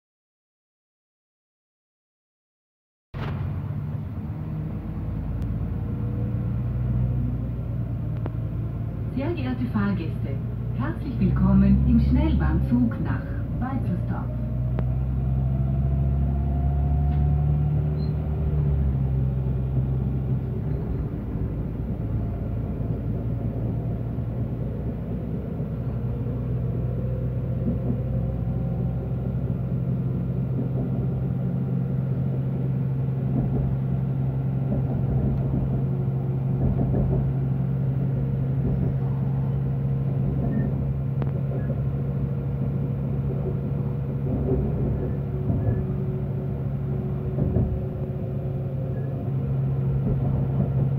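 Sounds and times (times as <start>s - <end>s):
diesel engine drone: 3.2s - 50.9s
train wheels rumbling: 3.2s - 50.9s.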